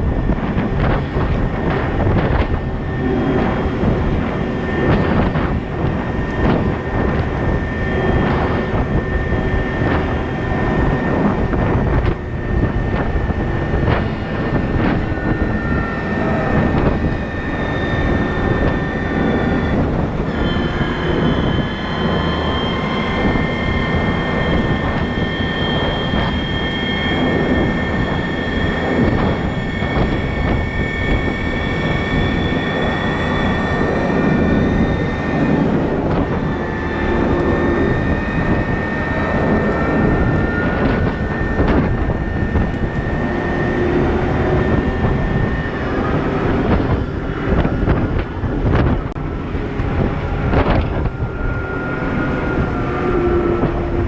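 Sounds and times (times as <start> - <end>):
heavy diesel machinery running: 0.0 - 54.0
high whining tones: 0.0 - 54.0.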